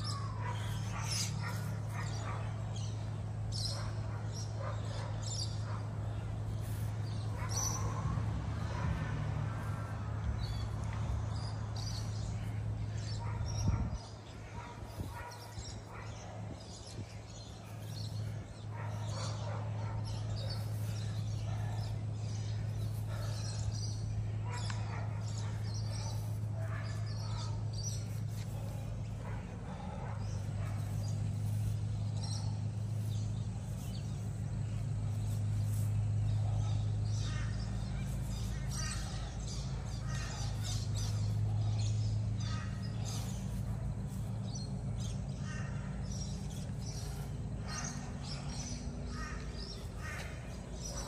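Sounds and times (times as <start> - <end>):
birds chirping: 0.0 - 51.0
steady low hum: 0.0 - 51.0.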